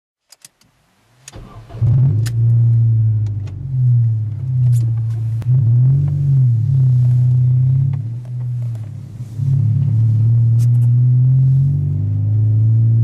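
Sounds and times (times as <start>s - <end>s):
car engine starting and idling: 0.6s - 13.0s.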